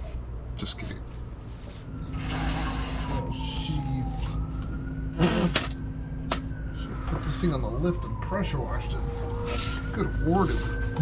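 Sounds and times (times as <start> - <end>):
siren wailing: 1.5 - 11.0.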